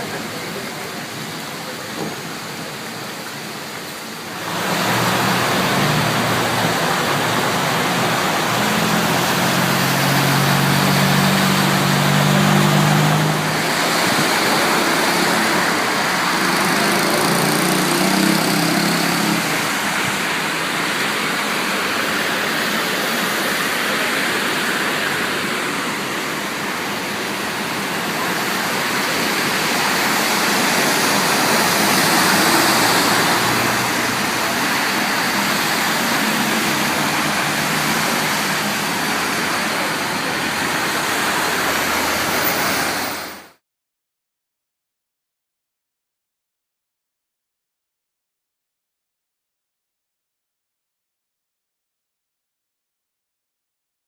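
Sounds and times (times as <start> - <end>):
heavy rain pouring: 0.0 - 43.6.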